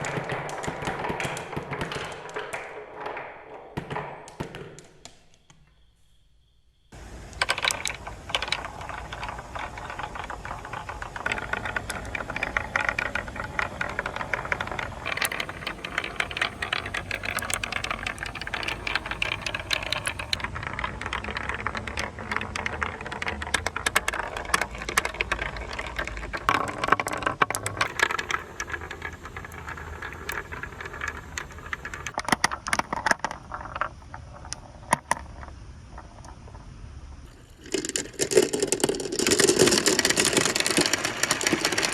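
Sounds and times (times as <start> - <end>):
marbles rolling and clattering: 0.0 - 5.3, 6.9 - 41.9.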